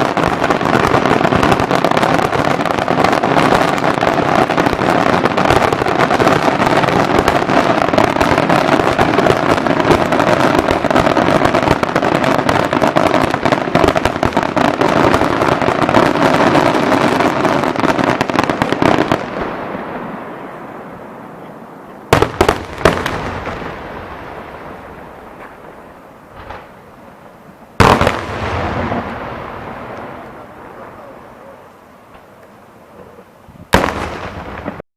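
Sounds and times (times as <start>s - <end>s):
loud firework bangs: 0.0s - 32.3s, 33.6s - 34.8s
fireworks crackling barrage: 0.0s - 34.8s.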